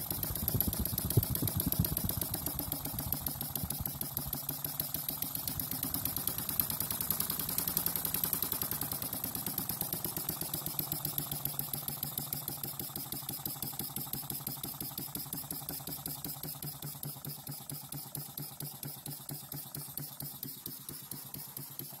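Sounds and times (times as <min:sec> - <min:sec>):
model steam engine running: 0:00.0 - 0:22.0.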